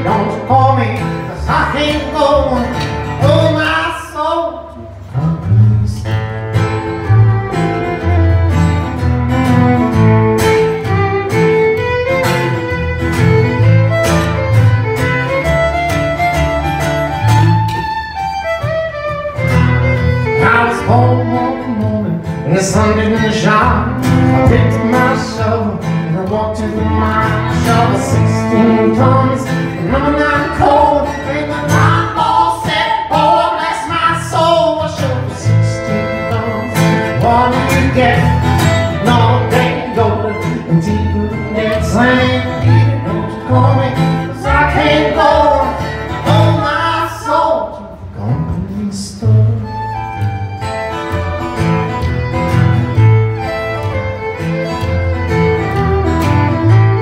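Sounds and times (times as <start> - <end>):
strummed acoustic guitar: 0.0 - 57.0
upright bass: 0.0 - 57.0
fiddle lead: 6.4 - 32.7, 34.2 - 46.8, 49.2 - 57.0.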